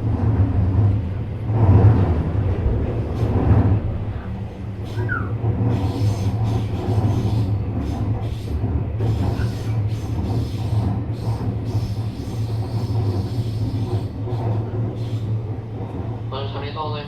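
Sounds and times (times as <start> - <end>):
train rumble: 0.0 - 17.0
wheels clattering on track: 0.0 - 17.0.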